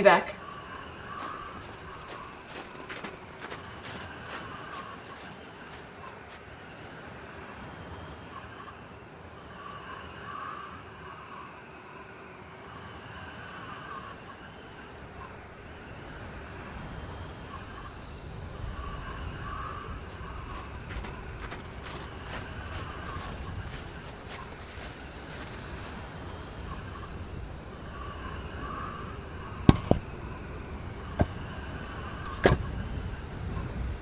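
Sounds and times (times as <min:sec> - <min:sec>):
blowing wind hiss: 0:00.0 - 0:07.4, 0:12.7 - 0:34.0
wavering wind howl: 0:00.0 - 0:34.0.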